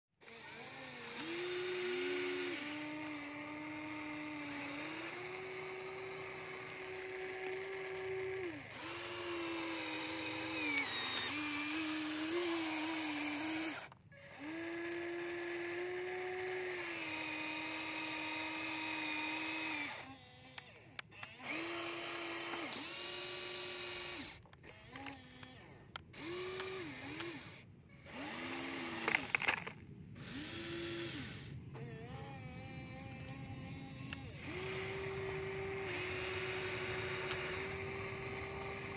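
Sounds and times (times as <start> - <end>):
toy excavator motors whining: 0.2 - 38.9.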